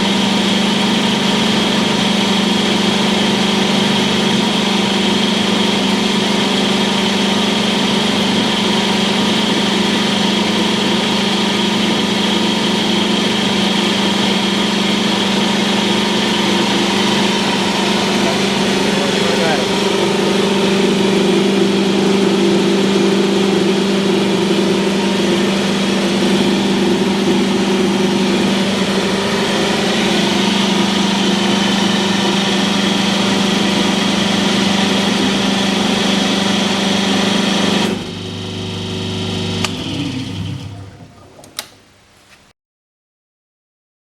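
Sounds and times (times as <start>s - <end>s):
hydraulic test bench humming: 0.0s - 42.2s.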